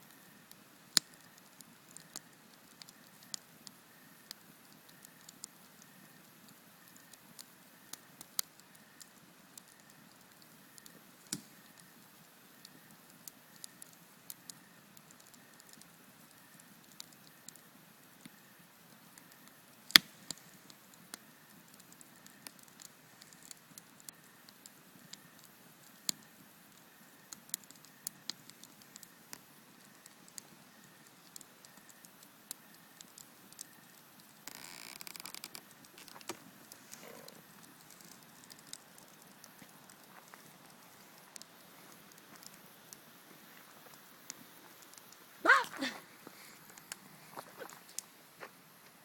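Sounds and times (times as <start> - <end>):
faint steady hiss: 0.0 - 49.0
campfire crackling and popping: 0.1 - 49.0.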